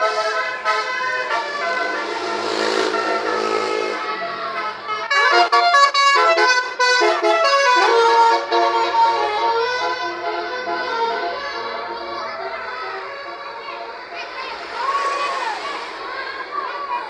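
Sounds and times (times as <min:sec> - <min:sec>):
bus musical horn playing a tune: 0:00.0 - 0:15.2.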